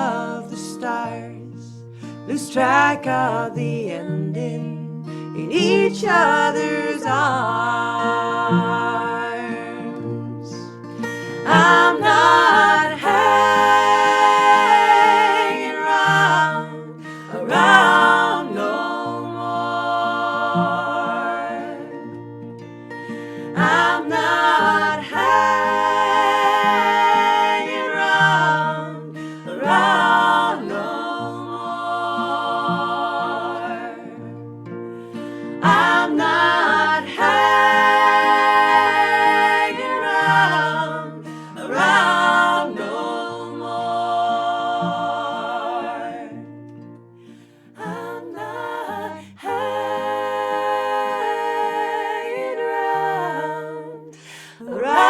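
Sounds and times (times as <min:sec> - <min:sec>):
voices singing in harmony: 0:00.0 - 0:55.0.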